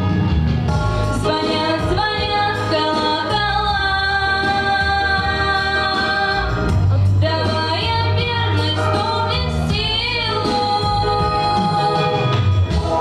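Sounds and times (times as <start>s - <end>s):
instrumental backing: 0.0s - 13.0s
woman singing: 0.8s - 13.0s.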